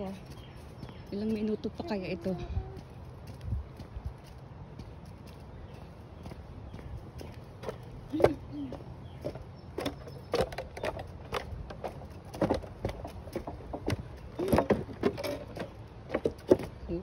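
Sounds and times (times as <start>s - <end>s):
footsteps on a trail: 0.0s - 16.8s.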